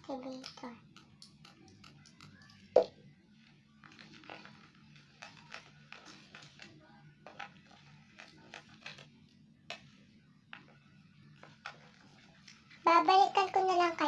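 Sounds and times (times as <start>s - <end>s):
soft clicks and squishes of slime: 0.0s - 12.8s
faint background music: 0.0s - 14.0s.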